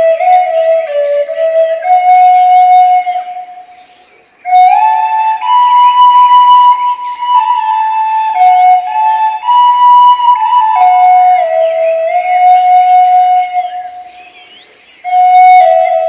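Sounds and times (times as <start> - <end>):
flute melody: 0.0 - 14.4, 15.0 - 16.0.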